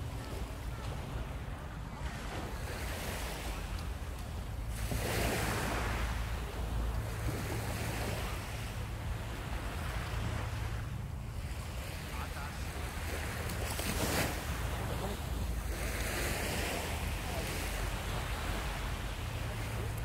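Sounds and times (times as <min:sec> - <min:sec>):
surf washing: 0:00.0 - 0:20.0
wind blowing across microphone: 0:00.0 - 0:20.0.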